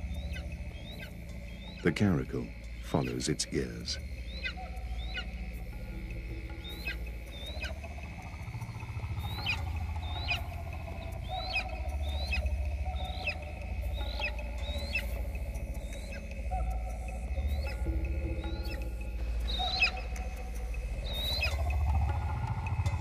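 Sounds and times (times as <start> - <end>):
eagle chirping: 0.0 - 22.4
low steady drone: 0.0 - 23.0.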